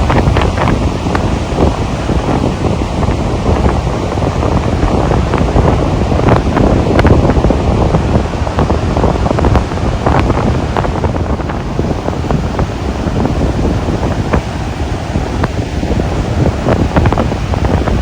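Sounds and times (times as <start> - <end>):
surf: 0.0 - 18.0
wind buffeting microphone: 0.0 - 18.0.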